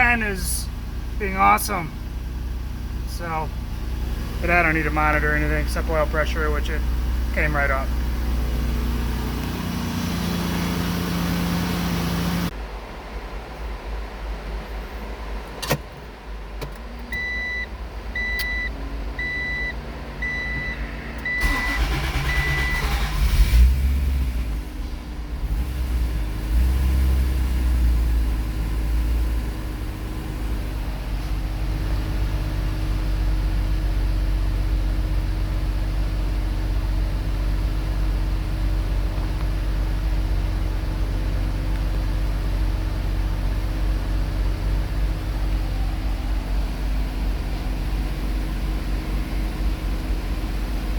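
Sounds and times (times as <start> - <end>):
car engine cranking and idling: 0.0 - 50.9.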